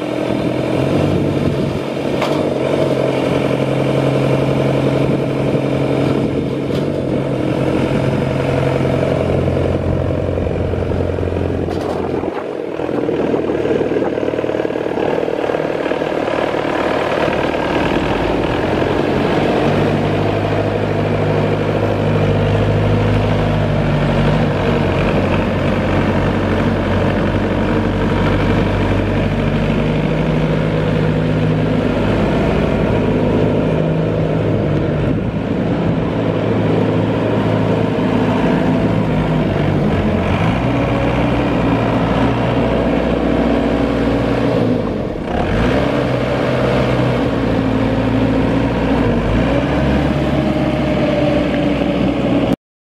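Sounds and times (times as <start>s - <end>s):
diesel tractor engine humming: 0.0s - 52.6s.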